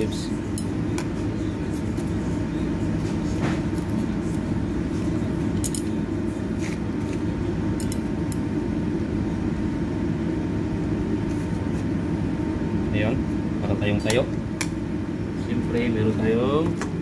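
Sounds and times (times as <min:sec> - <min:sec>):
ventilation fan rumble: 0:00.0 - 0:17.0.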